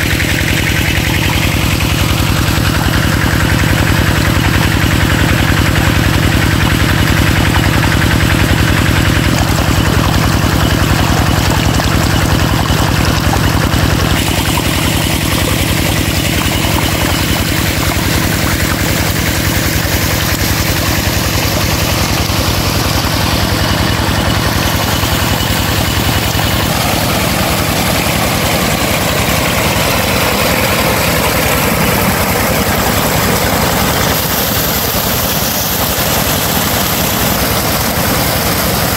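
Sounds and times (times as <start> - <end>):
water gushing and splashing: 0.0 - 38.9
water pump engine running: 0.0 - 38.9.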